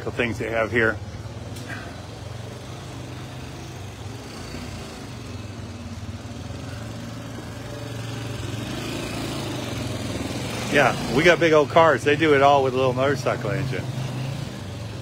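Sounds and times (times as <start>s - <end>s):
small motorcycle engine running: 1.7s - 15.0s.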